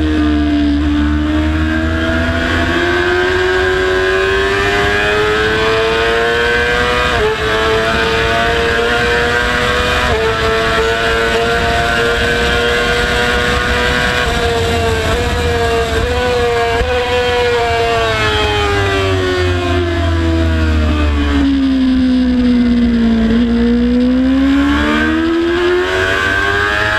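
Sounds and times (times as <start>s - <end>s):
motorcycle engine at high revs: 0.0s - 26.9s
wind noise rumble: 0.0s - 26.9s.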